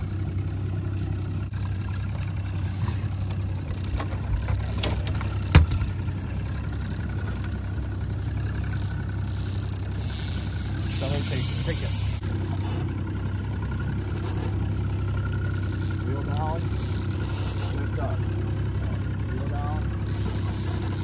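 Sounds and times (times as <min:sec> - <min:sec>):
boat engine running at low speed: 0:00.0 - 0:21.0.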